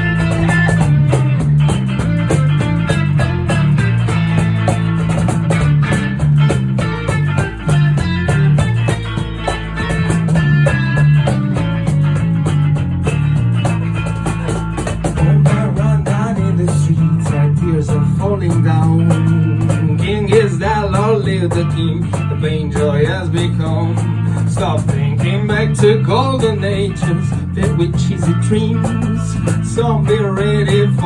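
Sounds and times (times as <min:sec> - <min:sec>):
bass line: 0:00.0 - 0:31.0
guitars strumming: 0:00.0 - 0:31.0.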